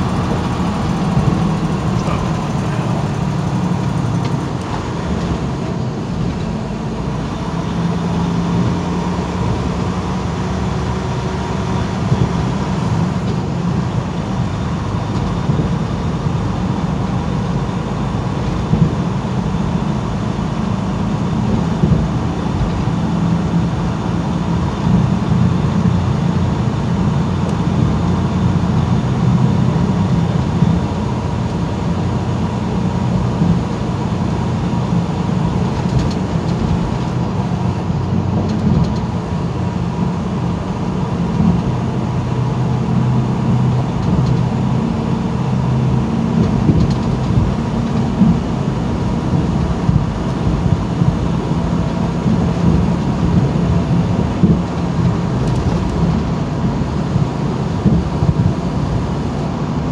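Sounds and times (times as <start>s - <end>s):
truck engine and tyres droning: 0.0s - 59.9s.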